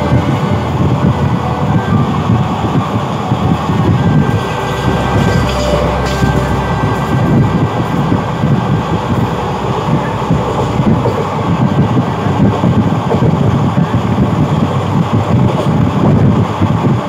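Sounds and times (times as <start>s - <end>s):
train wheels rumbling on track: 0.0s - 17.0s
wind buffeting microphone: 0.0s - 17.0s.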